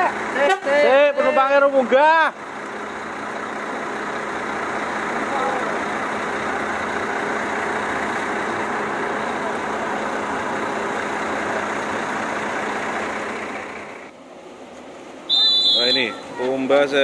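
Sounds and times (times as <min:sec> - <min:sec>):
bus engines idling: 0:00.0 - 0:17.0.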